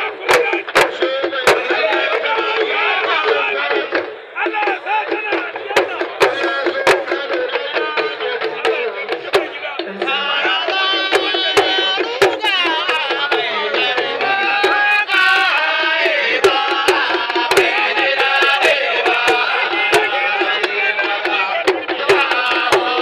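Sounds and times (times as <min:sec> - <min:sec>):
talking drums beaten fast: 0:00.0 - 0:23.0.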